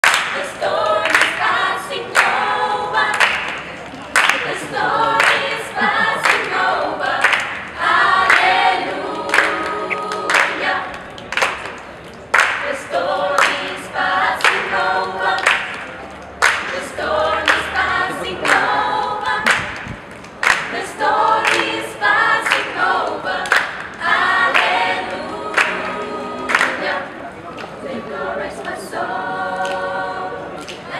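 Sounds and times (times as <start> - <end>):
hand claps: 0.0 - 1.5, 2.1 - 2.5, 3.1 - 27.7, 30.6 - 30.9
choir singing a cappella: 0.0 - 11.2, 12.4 - 15.9, 16.5 - 19.8, 20.5 - 30.9.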